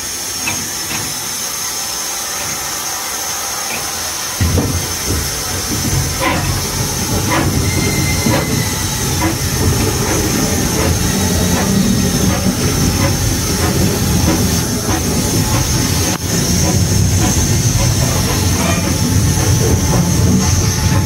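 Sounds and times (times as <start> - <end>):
steam hiss: 0.0 - 21.0
steam locomotive running rumble: 0.0 - 21.0.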